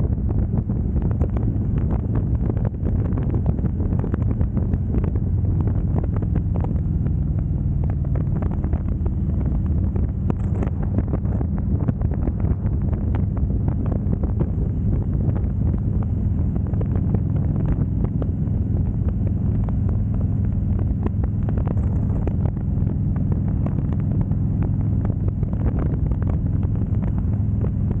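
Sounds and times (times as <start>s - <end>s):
motorcycle engine cruising: 0.0s - 28.0s
wind buffeting microphone: 0.0s - 28.0s.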